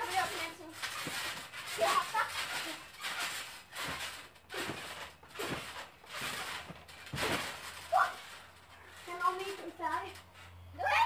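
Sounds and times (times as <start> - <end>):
trampoline bouncing: 0.0 - 11.0.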